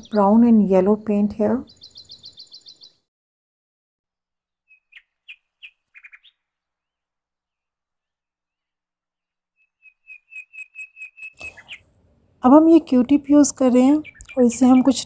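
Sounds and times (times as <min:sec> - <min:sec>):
bird chirping: 0:00.0 - 0:03.1, 0:04.6 - 0:08.8, 0:09.5 - 0:15.0.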